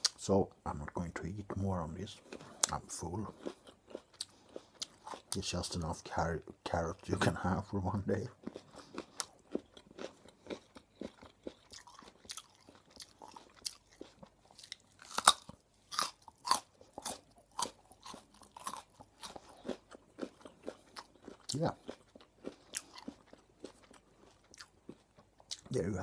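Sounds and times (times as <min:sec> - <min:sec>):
carrot crunching: 0:01.5 - 0:26.0.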